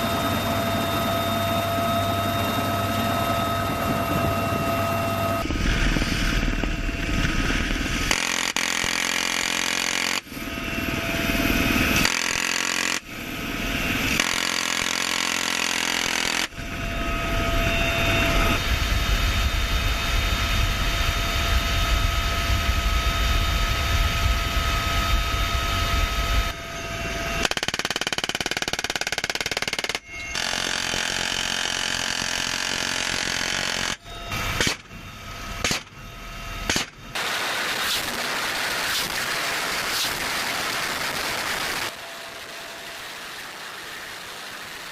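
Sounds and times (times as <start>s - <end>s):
helicopter rotor and turbine whine: 0.0s - 44.9s.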